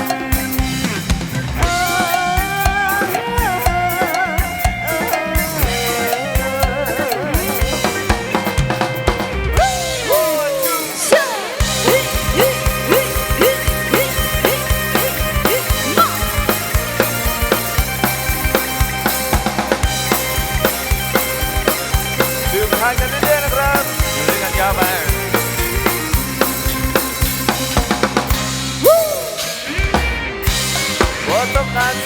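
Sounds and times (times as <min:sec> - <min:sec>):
bass: 0:00.0 - 0:32.0
drum kit: 0:00.0 - 0:32.0
falling bending notes: 0:00.0 - 0:32.0
melody instruments: 0:00.0 - 0:32.0.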